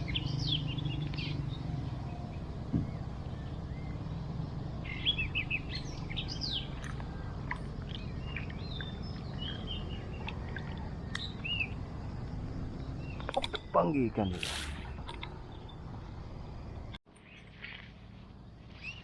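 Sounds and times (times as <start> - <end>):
birds chirping and whistling: 0.0 - 16.1, 18.7 - 19.0.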